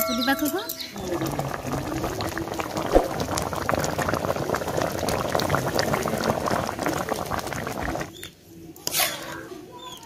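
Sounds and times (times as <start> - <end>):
thick chutney bubbling in pot: 0.0 - 10.0.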